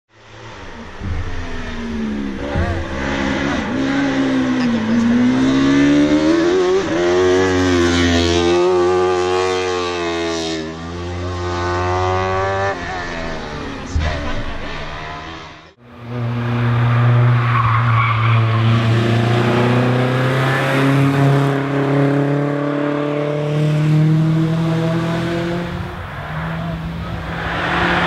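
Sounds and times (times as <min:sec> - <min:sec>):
car engine revving: 0:00.3 - 0:28.0.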